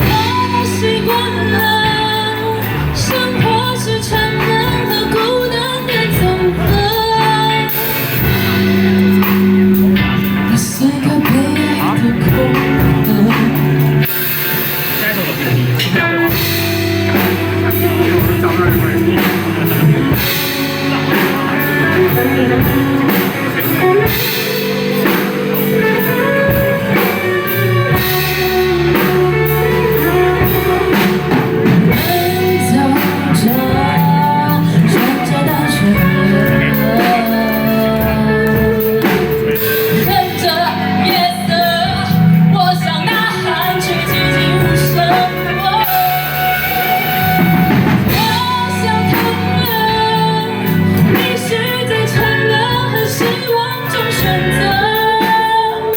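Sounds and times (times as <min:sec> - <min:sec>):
bass guitar: 0:00.0 - 0:55.9
drum kit: 0:00.0 - 0:55.9
electric guitars: 0:00.0 - 0:55.9
person singing lead vocals: 0:00.0 - 0:55.9.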